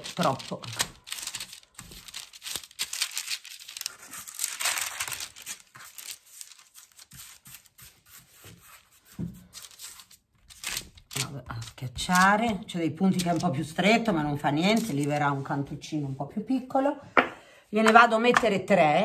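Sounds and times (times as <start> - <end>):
baking paper crinkling: 0.0 - 15.9.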